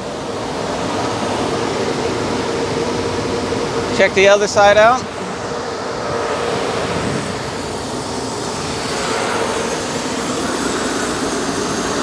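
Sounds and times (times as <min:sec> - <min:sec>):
mechanical drone: 0:00.0 - 0:12.0.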